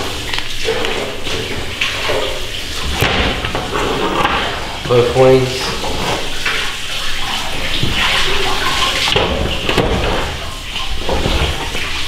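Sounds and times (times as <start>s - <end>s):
water running into a steel sink: 0.0s - 12.0s.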